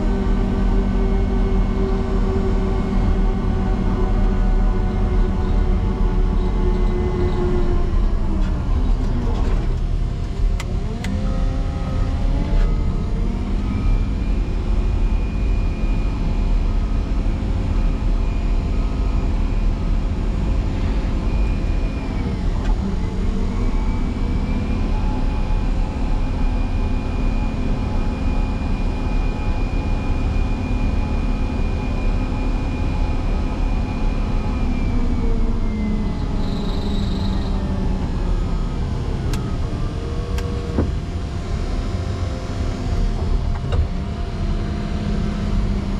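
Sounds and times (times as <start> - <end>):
diesel engine working hard: 0.0 - 45.9.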